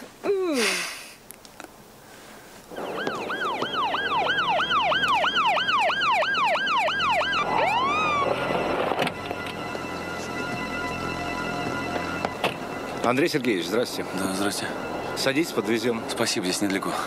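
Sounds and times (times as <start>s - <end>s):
police siren wailing: 2.7s - 17.0s.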